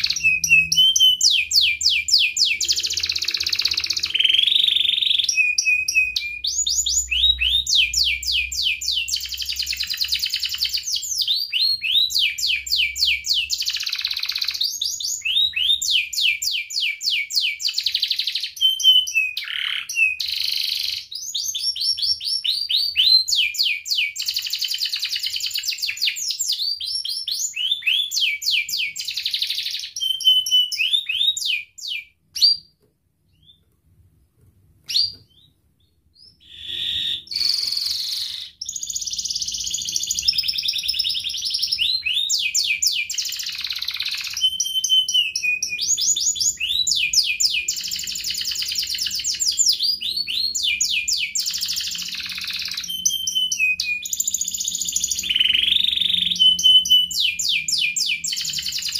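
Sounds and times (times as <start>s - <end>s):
canary singing trills: 0.0s - 33.7s, 34.8s - 58.9s.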